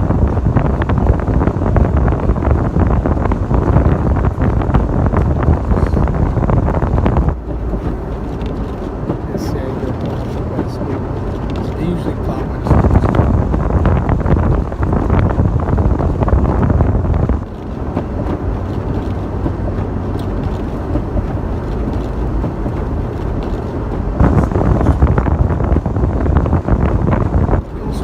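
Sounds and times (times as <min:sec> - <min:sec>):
vehicle rumble: 0:00.0 - 0:28.0
wind buffeting microphone: 0:00.0 - 0:28.0.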